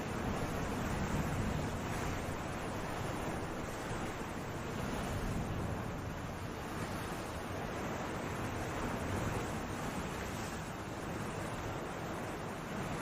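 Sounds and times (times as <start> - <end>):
sea waves: 0.0 - 13.0.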